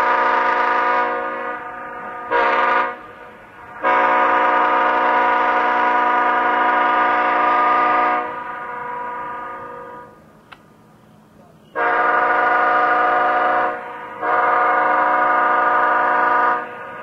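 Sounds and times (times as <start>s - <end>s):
locomotive air horn blasts: 0.0s - 10.2s, 11.7s - 17.0s.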